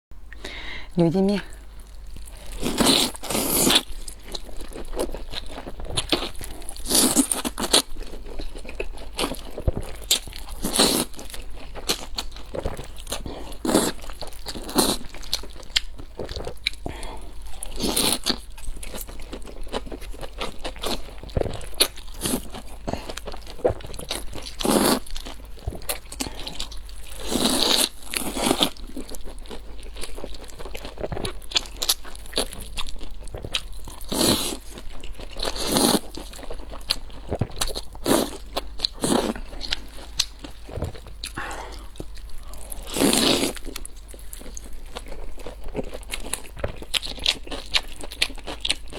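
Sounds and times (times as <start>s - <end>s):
crunchy chewing of fried food: 0.5s - 48.9s.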